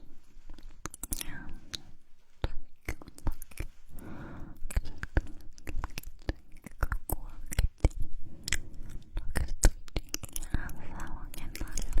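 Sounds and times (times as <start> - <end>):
soft breathy sound: 0.0 - 12.0
wet lip and tongue clicks: 0.4 - 3.9, 4.6 - 12.0.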